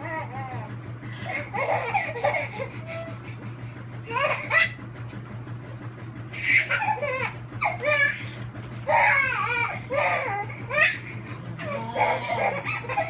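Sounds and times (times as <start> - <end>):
baby laughing: 0.0 - 3.3, 4.0 - 4.8, 6.3 - 13.0.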